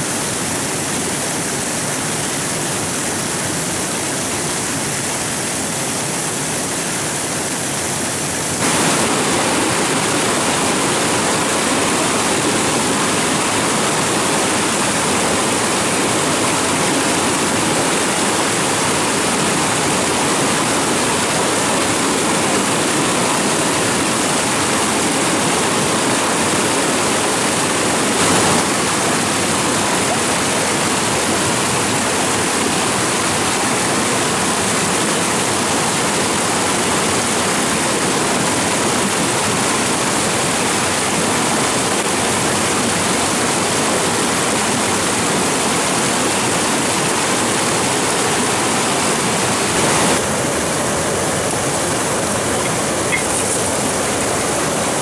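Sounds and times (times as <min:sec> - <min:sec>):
rushing flowing water: 0:00.0 - 0:55.0.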